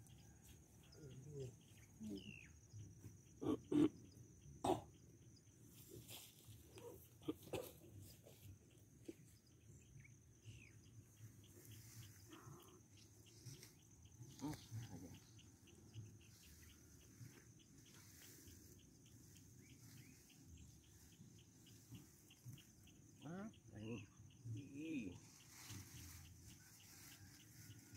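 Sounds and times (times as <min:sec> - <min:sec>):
faint high insect hiss: 0:00.0 - 0:27.9
insect chirping: 0:00.0 - 0:27.9.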